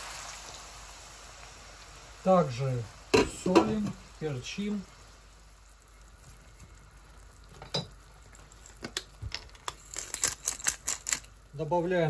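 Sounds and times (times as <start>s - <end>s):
faint sizzle in frying pan: 0.0s - 12.0s.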